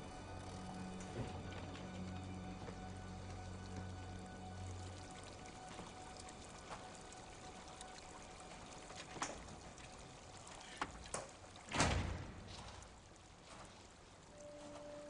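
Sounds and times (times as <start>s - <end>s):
fountain water trickling: 0.0s - 15.0s.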